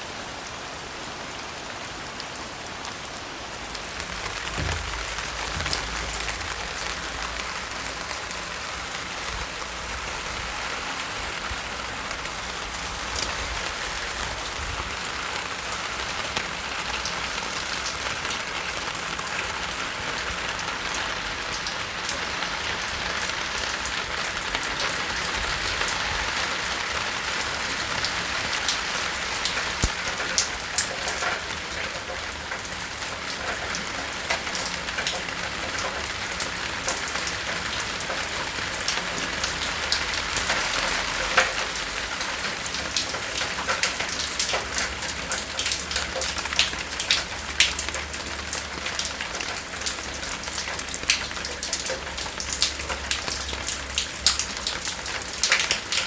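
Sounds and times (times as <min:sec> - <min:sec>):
steady rain: 0:00.0 - 0:56.0
raindrops ticking on surfaces: 0:00.3 - 0:56.0.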